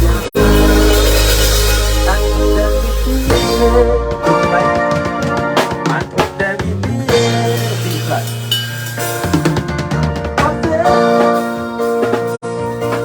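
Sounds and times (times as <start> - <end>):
band playing music: 0.0 - 13.0
drum kit: 0.0 - 13.0.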